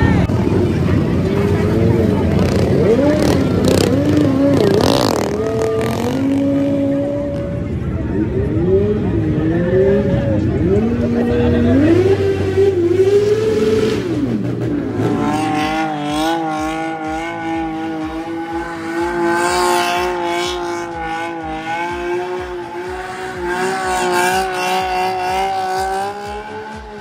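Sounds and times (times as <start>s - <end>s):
car engine at high revs: 0.1s - 27.0s.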